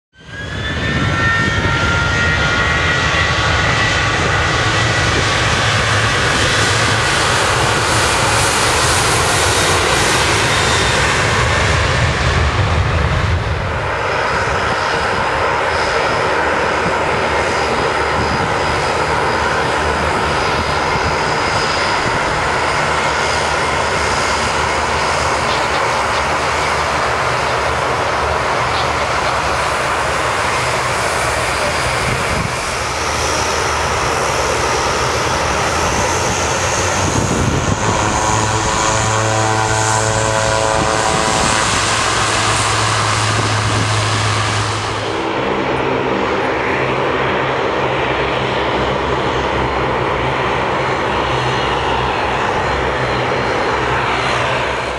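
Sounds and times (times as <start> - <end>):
turboprop engines droning: 0.1 - 54.9
high whine: 0.2 - 54.9.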